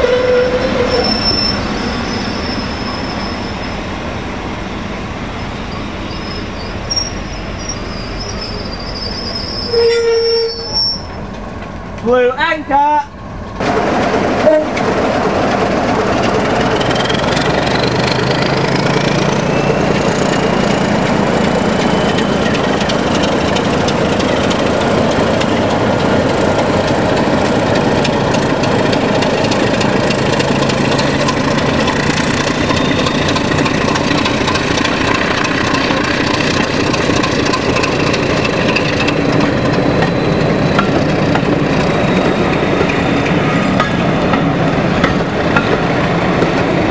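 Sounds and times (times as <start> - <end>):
diesel locomotive engine: 0.0 - 46.9.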